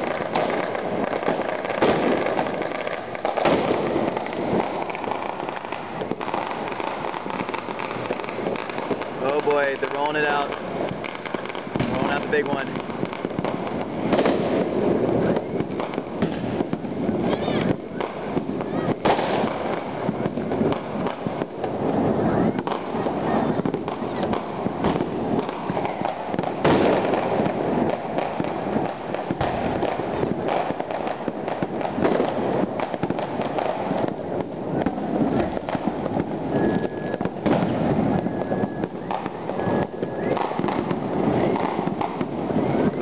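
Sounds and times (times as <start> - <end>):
firecrackers crackling: 0.0 - 43.0
loud firework bangs: 0.0 - 43.0.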